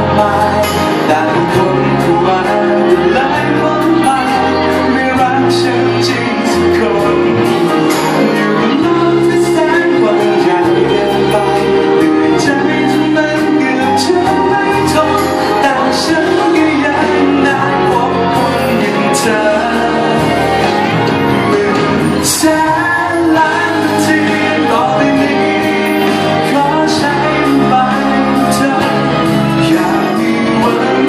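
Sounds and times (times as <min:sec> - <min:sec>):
backing music over pa: 0:00.0 - 0:31.0
man singing into a microphone: 0:00.0 - 0:31.0.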